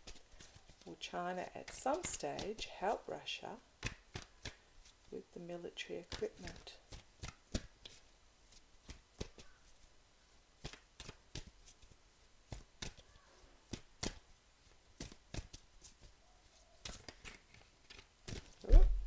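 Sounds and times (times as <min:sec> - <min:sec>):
cards being shuffled: 0:00.0 - 0:03.1, 0:03.8 - 0:05.1, 0:05.9 - 0:09.9, 0:10.6 - 0:19.0.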